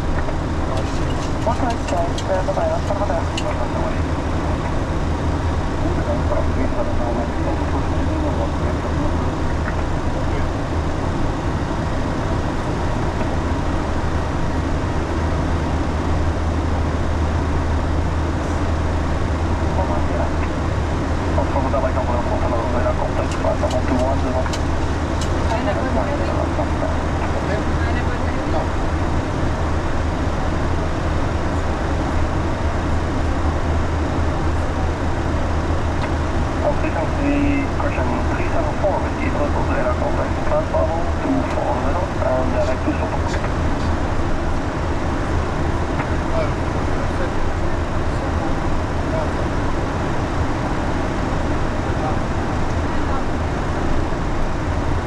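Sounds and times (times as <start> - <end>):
airflow and engine noise: 0.0 - 55.0
constant low hum: 0.0 - 55.0
constant low rumble: 0.0 - 55.0.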